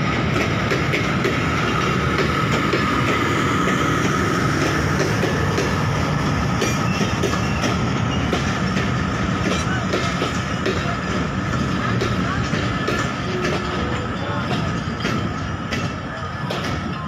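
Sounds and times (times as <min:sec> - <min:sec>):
train wheels clattering over rail joints: 0:00.0 - 0:17.0.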